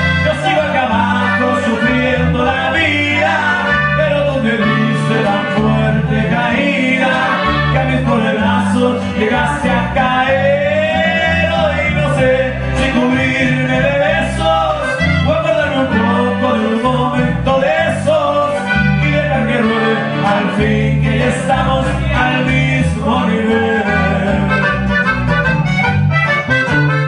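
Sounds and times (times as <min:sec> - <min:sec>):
man singing: 0:00.0 - 0:25.0
button accordion: 0:00.0 - 0:27.0
guitar: 0:00.0 - 0:27.0
walking bass line: 0:00.0 - 0:27.0.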